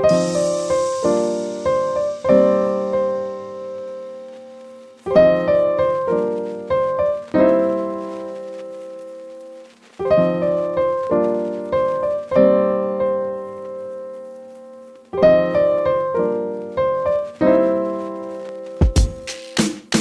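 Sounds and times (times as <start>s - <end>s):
piano notes and chords: 0.0s - 20.0s.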